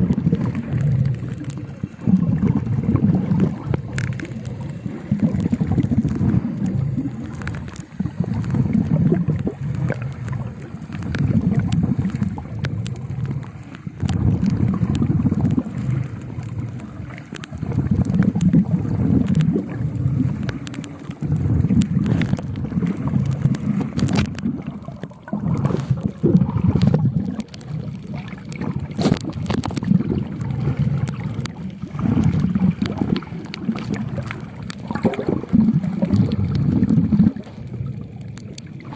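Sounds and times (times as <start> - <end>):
muffled underwater water movement: 0.0 - 38.9
sharp clicks and crackles: 0.0 - 38.9.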